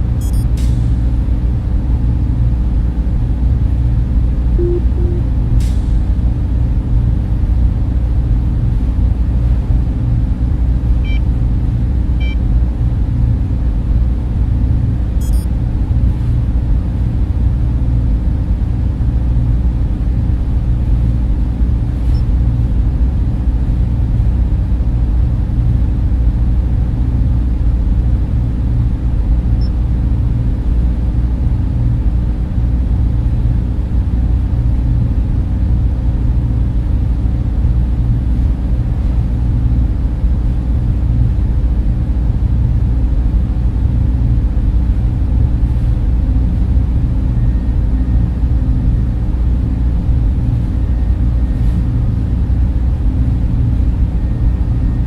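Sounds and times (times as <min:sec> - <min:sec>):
cooling fans humming: 0:01.4 - 0:05.7, 0:06.6 - 0:55.0.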